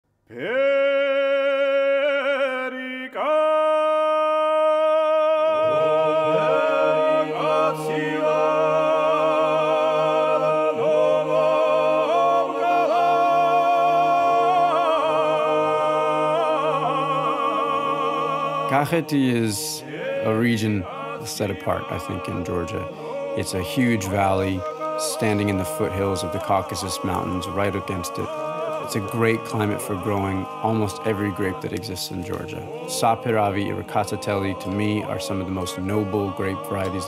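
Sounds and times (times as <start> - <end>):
person singing with vibrato: 0.3 - 37.0.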